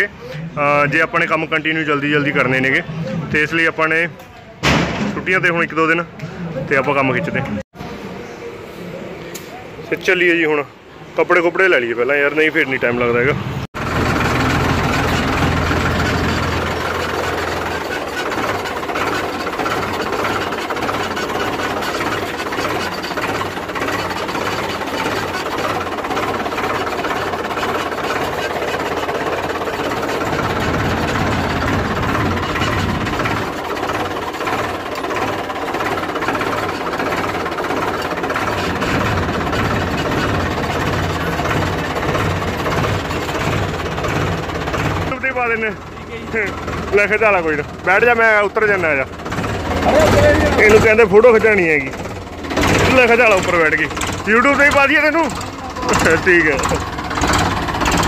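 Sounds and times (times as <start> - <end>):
vehicle engine droning: 6.1 - 58.0.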